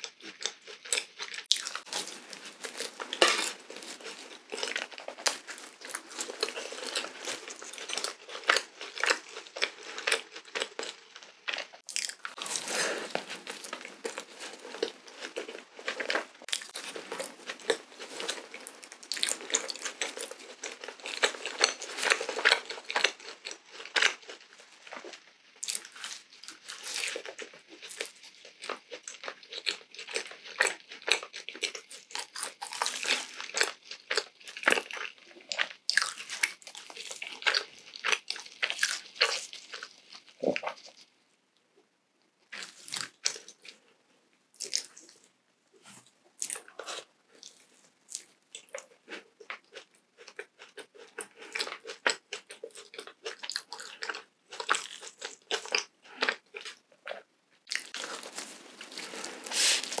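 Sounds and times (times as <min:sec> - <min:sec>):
doughnut crunching: 0:00.0 - 0:41.1, 0:45.9 - 1:00.0.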